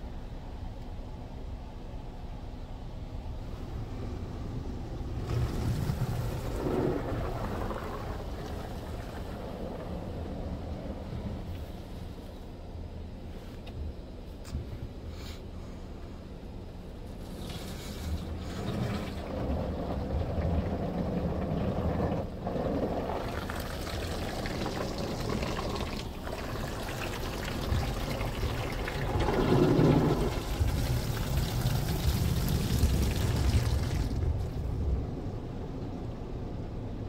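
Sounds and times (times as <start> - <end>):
car wash spraying water: 3.3 - 15.5, 16.5 - 37.0.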